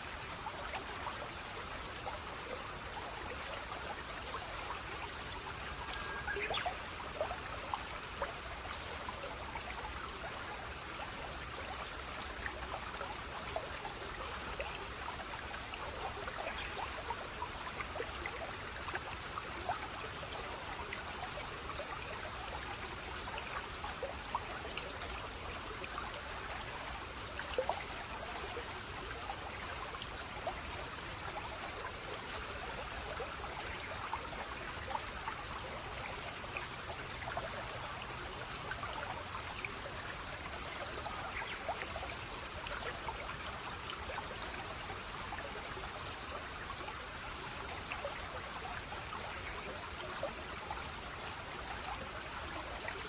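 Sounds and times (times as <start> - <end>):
stream trickling and babbling: 0.0 - 53.0.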